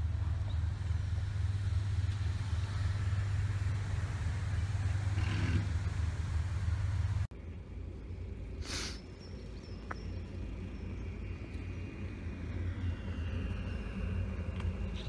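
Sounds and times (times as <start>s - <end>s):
boat engine throbbing: 0.0s - 9.5s, 10.1s - 15.0s.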